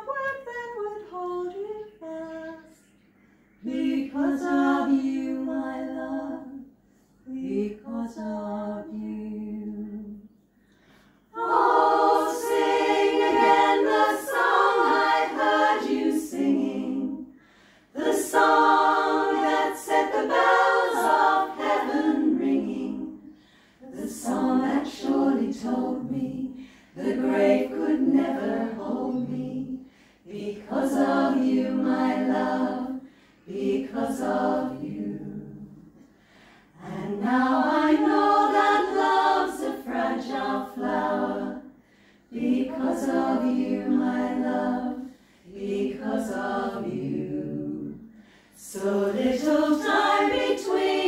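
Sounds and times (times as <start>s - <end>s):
women's choir singing: 3.6s - 6.6s, 7.3s - 10.2s, 11.3s - 35.9s, 36.8s - 51.0s.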